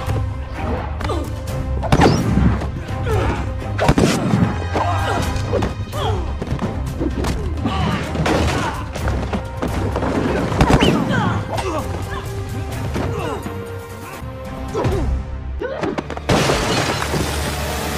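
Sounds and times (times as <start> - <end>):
driving action music: 0.0 - 17.9.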